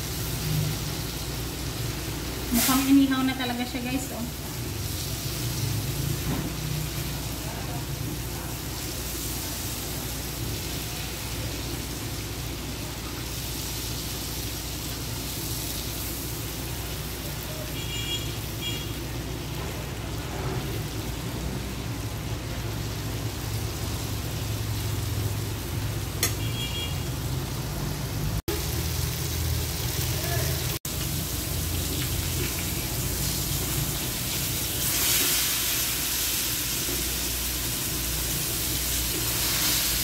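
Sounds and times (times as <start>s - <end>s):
fish sizzling in a pan: 0.0s - 40.0s.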